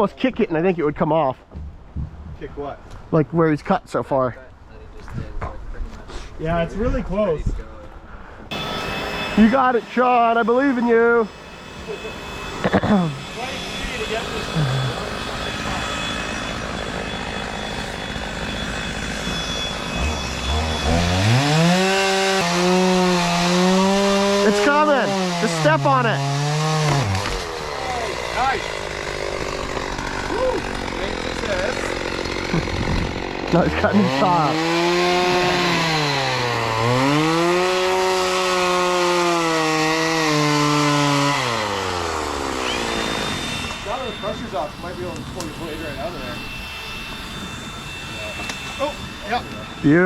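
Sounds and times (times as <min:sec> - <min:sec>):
chainsaw cutting wood: 0:08.5 - 0:50.0.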